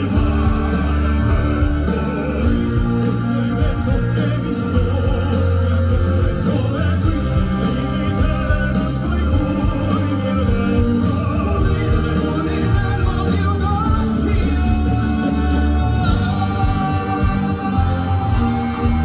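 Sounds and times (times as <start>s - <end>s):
live band with heavy bass: 0.0s - 19.0s
male vocal group singing: 0.0s - 19.0s.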